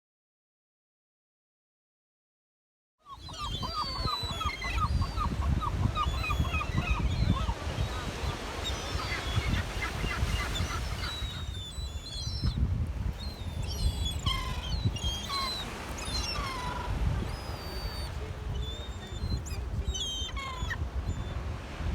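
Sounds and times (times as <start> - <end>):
gulls calling: 3.1 - 21.8.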